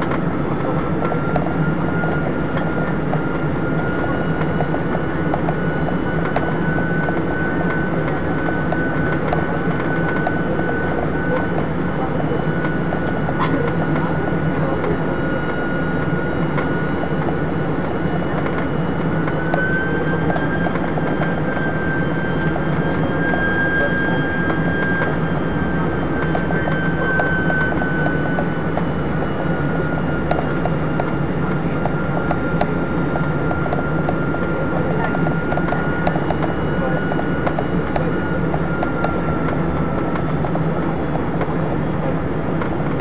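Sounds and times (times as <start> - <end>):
airliner cabin roar: 0.0 - 43.0
high engine whine: 0.0 - 43.0.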